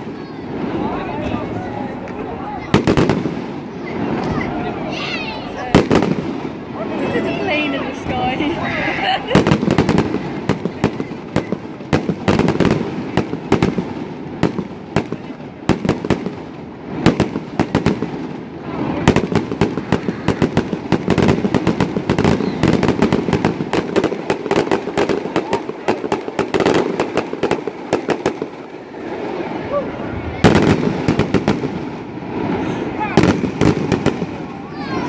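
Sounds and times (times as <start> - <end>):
fireworks bursting and crackling: 0.0 - 35.0.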